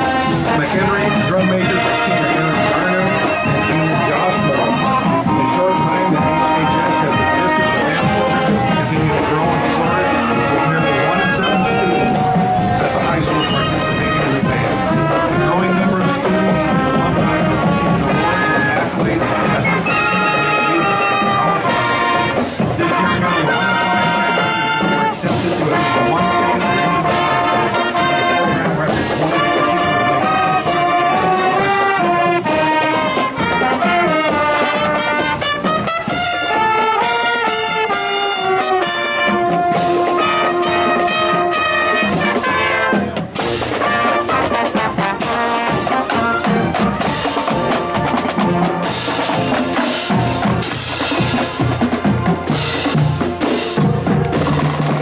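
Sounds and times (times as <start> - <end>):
drums: 0.0 - 55.0
marching band playing: 0.0 - 55.0
trumpets and trombones: 0.0 - 55.0.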